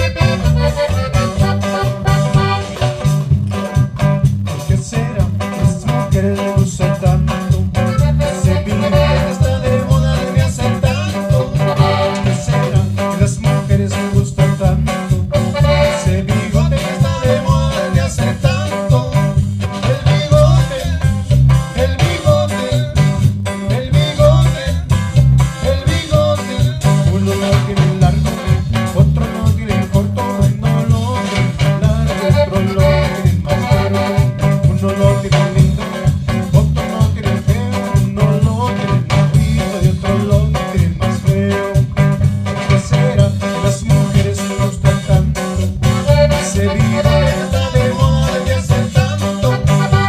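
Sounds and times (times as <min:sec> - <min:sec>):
live band playing cumbia: 0:00.0 - 0:50.0
pulsing bass beat: 0:00.0 - 0:50.0.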